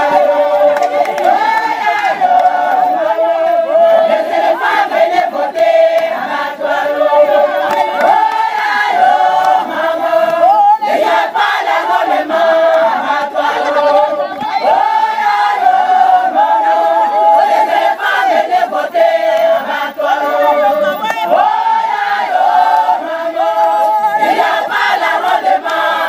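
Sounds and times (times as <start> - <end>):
women singing and chanting: 0.0 - 26.0.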